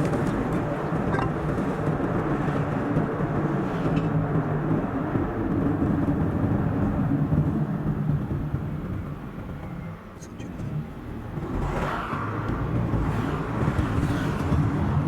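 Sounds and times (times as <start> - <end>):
sped-up car driving noise: 0.0 - 15.0.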